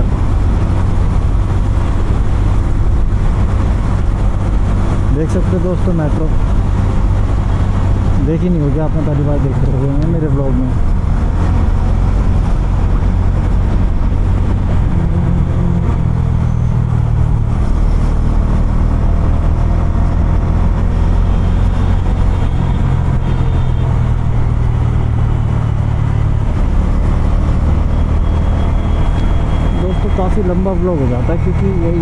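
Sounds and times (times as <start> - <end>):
motorcycle engine and exhaust: 0.0 - 32.0.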